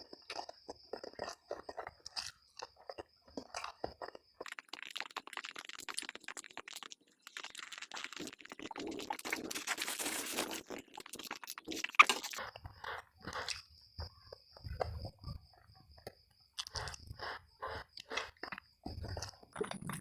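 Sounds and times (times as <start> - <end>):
wet chewing: 0.0 - 20.0.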